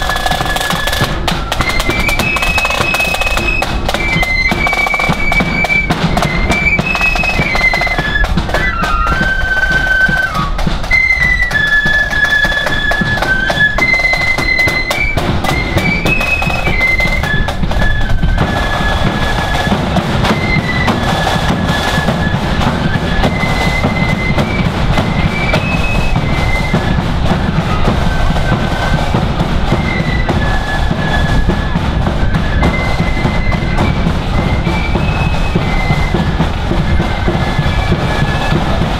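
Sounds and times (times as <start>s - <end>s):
bass drum and side drums: 0.0s - 9.3s, 12.7s - 38.9s
flute melody: 0.0s - 38.9s.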